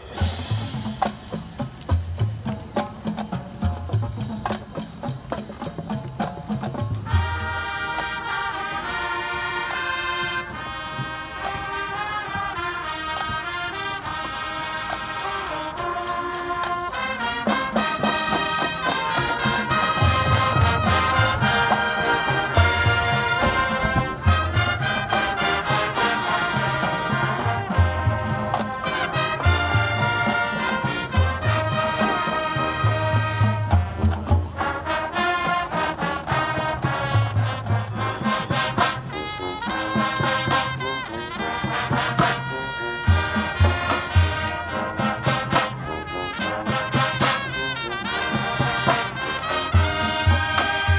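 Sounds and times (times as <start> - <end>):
marching band playing: 0.0 - 50.9.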